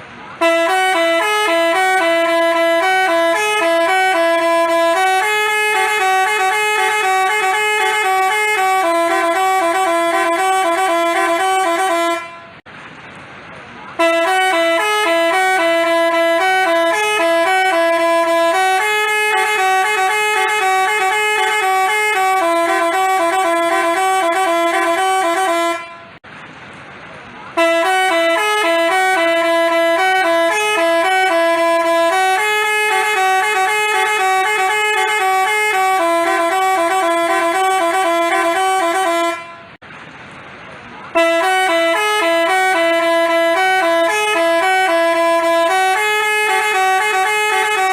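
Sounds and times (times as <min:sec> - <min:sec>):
multi-tone musical bus horn: 0:00.0 - 0:12.7, 0:13.9 - 0:26.2, 0:27.5 - 0:39.8, 0:41.1 - 0:47.9.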